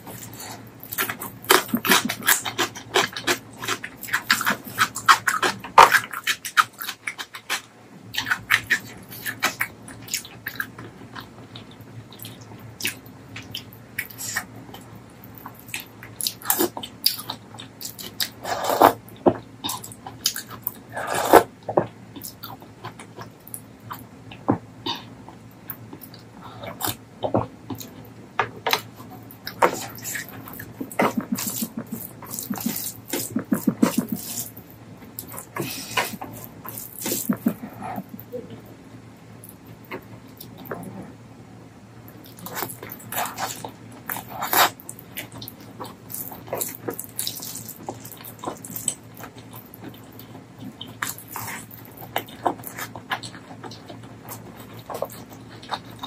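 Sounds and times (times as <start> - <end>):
wet chewing: 0.0 - 38.6, 42.1 - 56.0.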